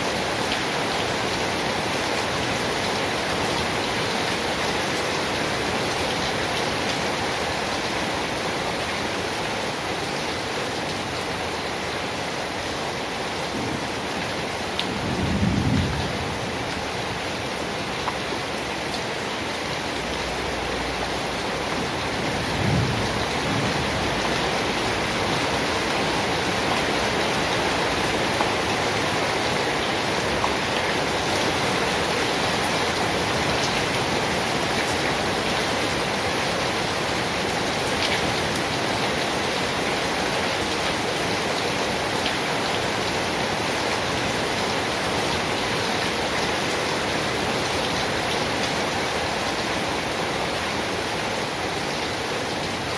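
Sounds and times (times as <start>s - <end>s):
dense rainfall: 0.0s - 52.9s.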